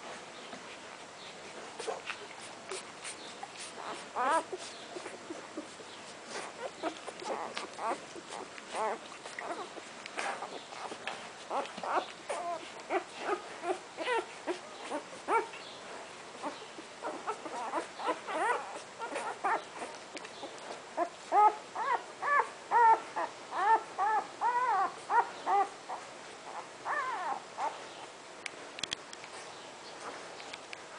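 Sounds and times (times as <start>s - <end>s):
puppies squeaking and whimpering: 1.8s - 15.7s, 16.4s - 28.0s.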